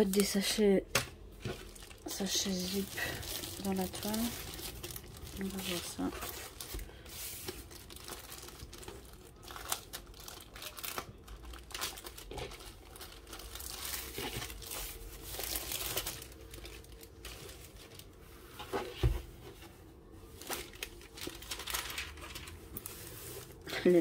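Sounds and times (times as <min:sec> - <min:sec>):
plastic sleeve crinkling: 0:00.0 - 0:00.6, 0:01.2 - 0:18.9, 0:20.2 - 0:24.0.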